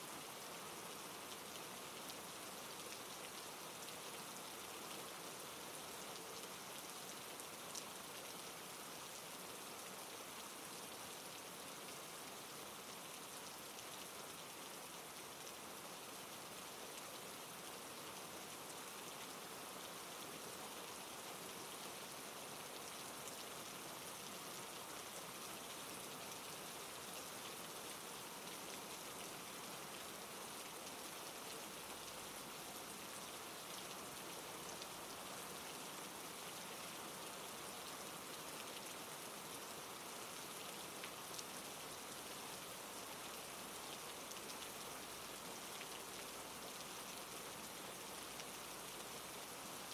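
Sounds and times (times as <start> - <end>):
steady rainfall pattering: 0.0 - 49.9.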